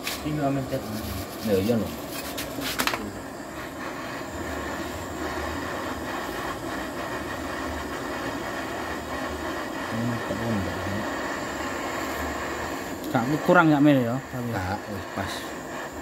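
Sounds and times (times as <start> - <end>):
gas torch hissing: 0.0 - 16.0.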